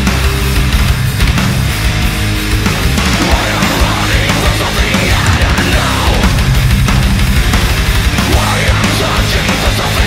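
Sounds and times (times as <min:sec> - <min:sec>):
distorted guitars: 0:00.0 - 0:10.0
rapid pounding drums: 0:00.0 - 0:10.0.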